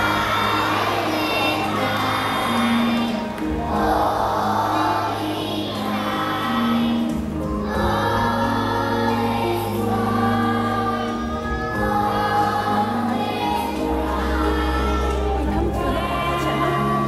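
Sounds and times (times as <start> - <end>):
children's choir singing: 0.0 - 17.0
instrumental accompaniment low notes: 0.0 - 17.0.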